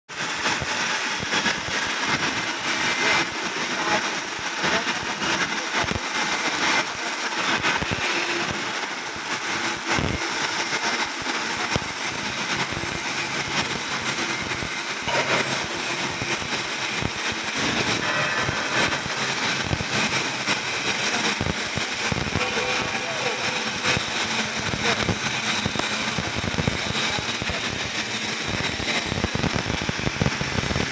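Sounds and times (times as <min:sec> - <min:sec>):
arc welding crackle and sizzle: 0:00.1 - 0:30.9.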